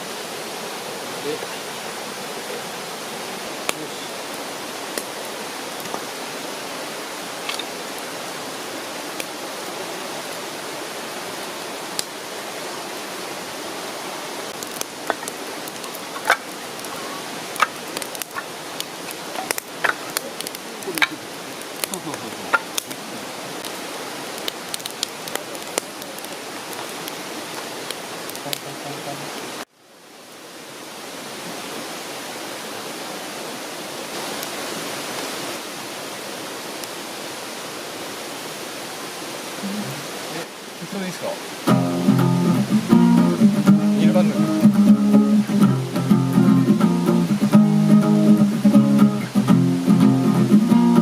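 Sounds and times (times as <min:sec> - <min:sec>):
river water rushing: 0:00.0 - 0:51.0.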